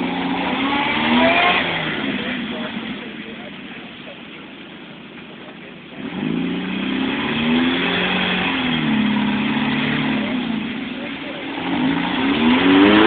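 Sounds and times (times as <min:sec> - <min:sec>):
off-road engine revving under load: 0:00.0 - 0:04.2, 0:05.4 - 0:13.0.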